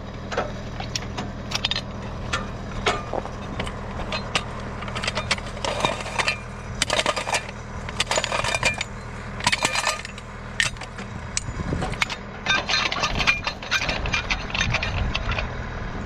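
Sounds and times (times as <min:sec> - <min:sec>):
metallic clanks and rattles: 0:00.0 - 0:15.6
engine running steadily: 0:00.0 - 0:16.0.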